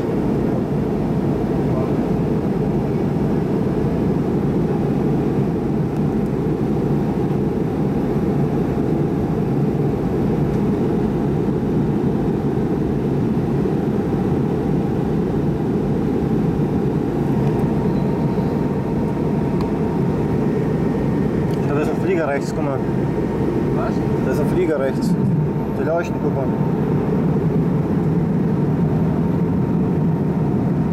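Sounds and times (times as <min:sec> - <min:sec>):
airliner cabin rumble: 0:00.0 - 0:30.9
faint jet engine whine: 0:00.0 - 0:30.9.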